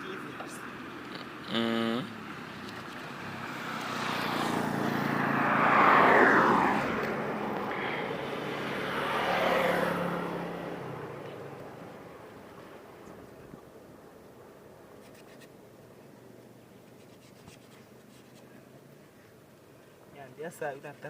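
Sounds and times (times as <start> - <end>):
vehicles passing by: 0.0 - 21.0.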